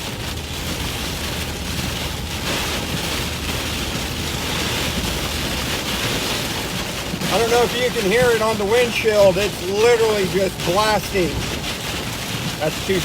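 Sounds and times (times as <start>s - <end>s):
heavy rain on car windshield: 0.0s - 13.0s
strong wind buffeting car: 0.0s - 13.0s.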